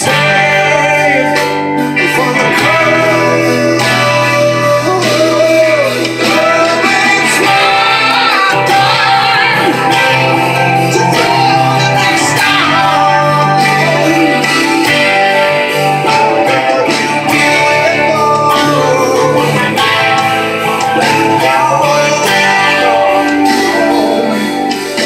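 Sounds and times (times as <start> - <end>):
electric guitar rock song: 0.0 - 25.0
person singing: 0.0 - 25.0.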